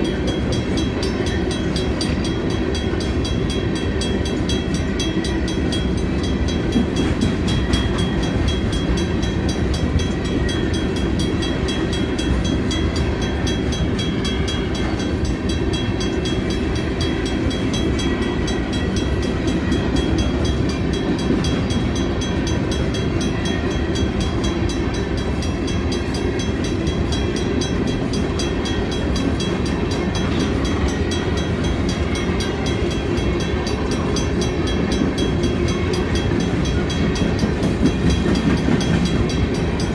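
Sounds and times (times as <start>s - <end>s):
crossing bell ringing: 0.0s - 39.9s
steel wheels rumbling on rail: 0.0s - 39.9s.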